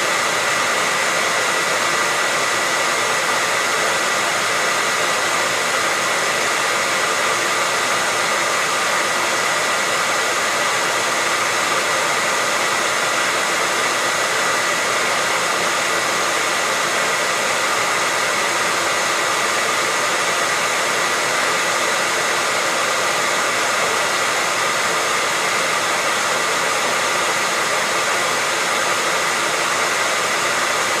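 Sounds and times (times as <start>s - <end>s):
hair dryer running: 0.0s - 31.0s.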